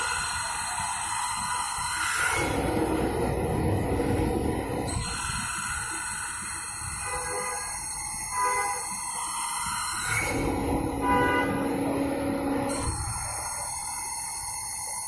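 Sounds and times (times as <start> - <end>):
machine whine: 0.0 - 15.0.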